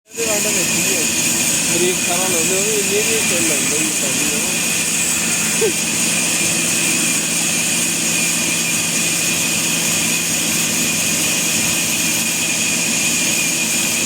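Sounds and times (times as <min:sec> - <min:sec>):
high-pitched whine: 0:00.1 - 0:14.0
sawmill machinery humming: 0:00.1 - 0:14.0.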